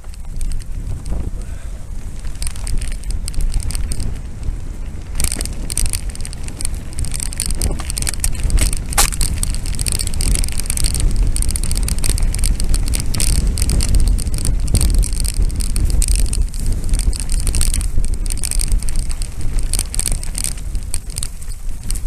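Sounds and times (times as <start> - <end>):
bike rattling: 0.0 - 22.0
tyres crunching over dirt: 0.0 - 22.0
wind buffeting microphone: 0.0 - 22.0.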